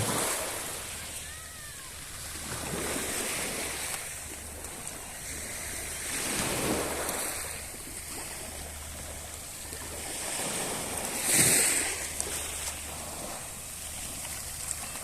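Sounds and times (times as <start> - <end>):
sea waves breaking on shore: 0.0 - 15.0.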